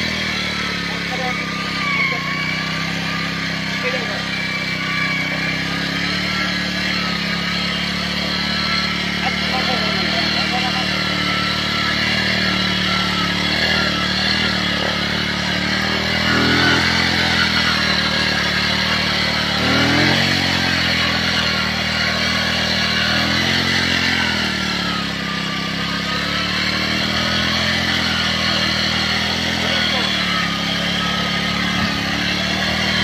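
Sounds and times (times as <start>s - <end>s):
motorcycle engine revving under load: 0.0s - 33.0s.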